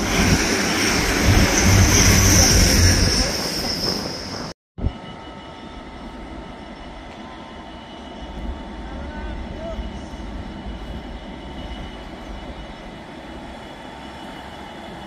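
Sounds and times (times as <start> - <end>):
train passing on rails: 0.0 - 15.0.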